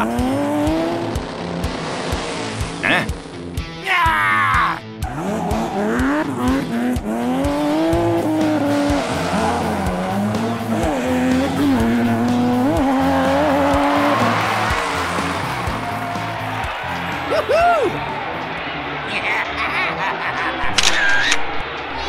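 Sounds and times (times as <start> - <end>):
car engine revving: 0.0 - 3.7, 5.0 - 19.0
background music with beat: 0.0 - 18.7.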